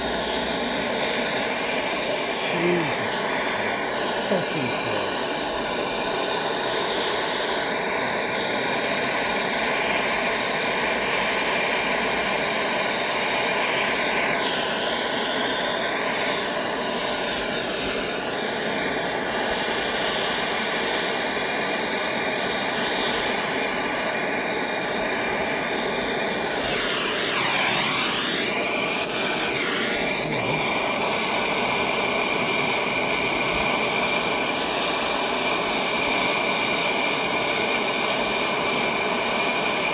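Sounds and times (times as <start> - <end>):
gas torch roaring: 0.0 - 39.9.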